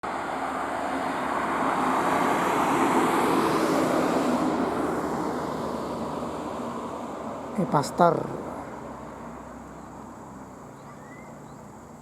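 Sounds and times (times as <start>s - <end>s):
traffic passing at speed: 0.0s - 12.0s.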